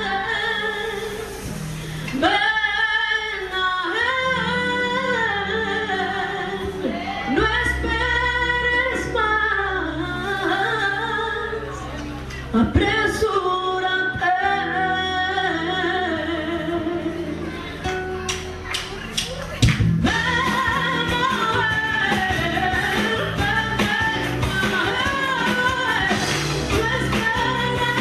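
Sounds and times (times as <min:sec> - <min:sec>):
woman singing through microphone: 0:00.0 - 0:18.1, 0:20.0 - 0:28.0.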